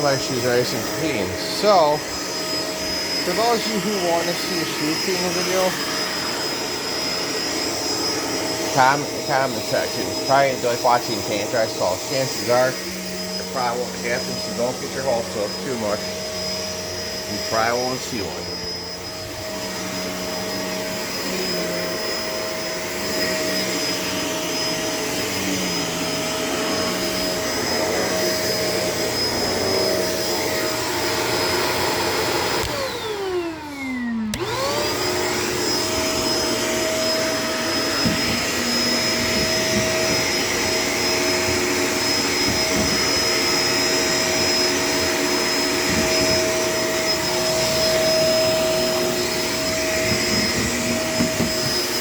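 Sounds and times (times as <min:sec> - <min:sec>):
vacuum cleaner motor whine: 0:00.0 - 0:52.0.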